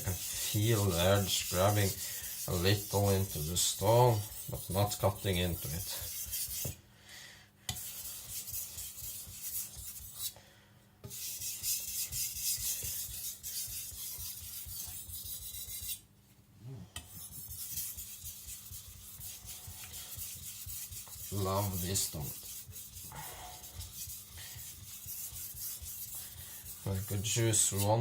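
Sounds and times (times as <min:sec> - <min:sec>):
knife scraping on whetstone: 0:00.0 - 0:06.8, 0:11.1 - 0:16.0, 0:17.1 - 0:28.0.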